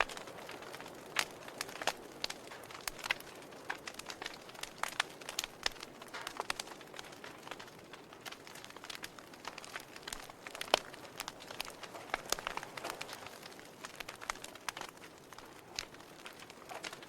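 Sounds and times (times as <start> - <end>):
fire crackling and popping: 0.0 - 17.0
soft fire hiss: 0.0 - 17.0.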